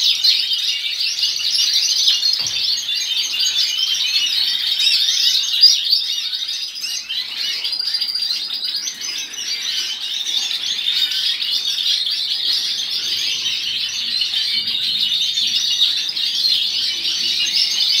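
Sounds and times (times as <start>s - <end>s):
songbirds chirping and singing: 0.0s - 18.0s.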